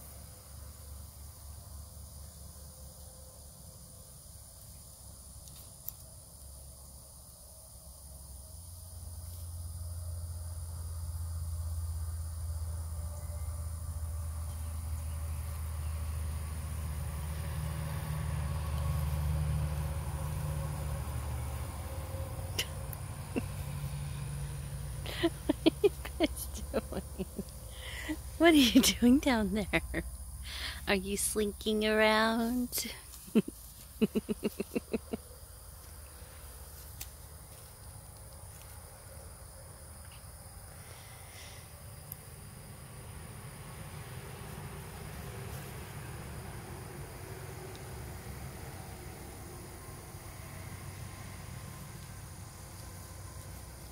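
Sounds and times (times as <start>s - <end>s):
insects buzzing: 0.0s - 53.9s
low mechanical hum: 0.0s - 53.9s.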